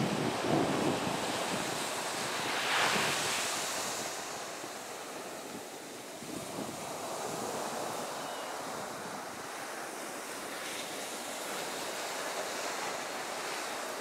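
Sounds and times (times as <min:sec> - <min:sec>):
wind on microphone: 0:00.0 - 0:13.6
surf washing onto beach: 0:00.0 - 0:14.0.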